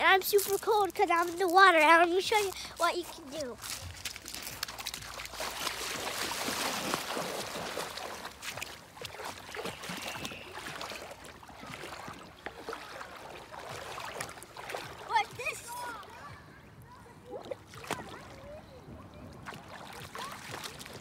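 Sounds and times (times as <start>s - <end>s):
wading through shallow water: 0.0s - 21.0s.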